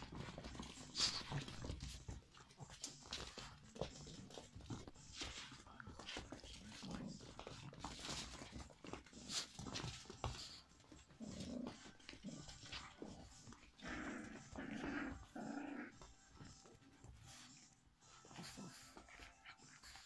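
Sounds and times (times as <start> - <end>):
paws scuffling on wooden floor: 0.0 - 20.0
puppies growling: 0.0 - 20.0.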